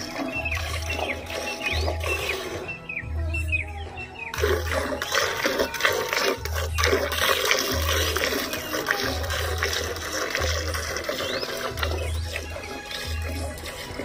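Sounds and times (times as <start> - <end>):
milk squirting into a pail: 0.0 - 2.7, 4.3 - 14.0.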